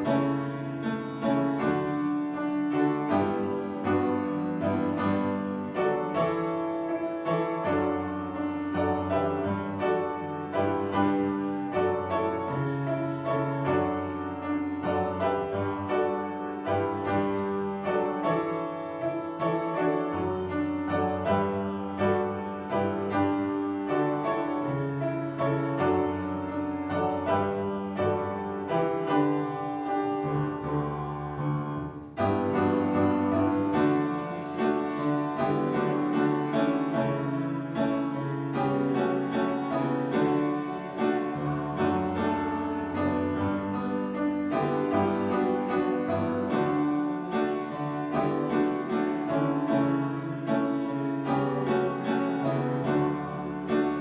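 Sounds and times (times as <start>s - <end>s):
piano playing hymn chords: 0.0s - 54.0s.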